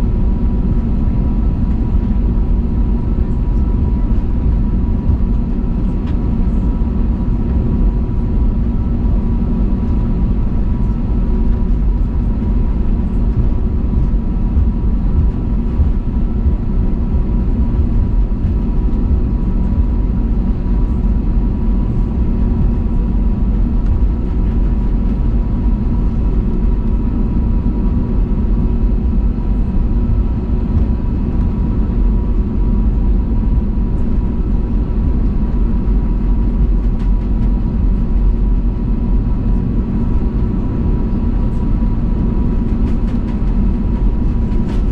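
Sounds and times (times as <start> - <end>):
aircraft cabin engine rumble: 0.0 - 44.9
turbofan engine whine: 0.0 - 44.9.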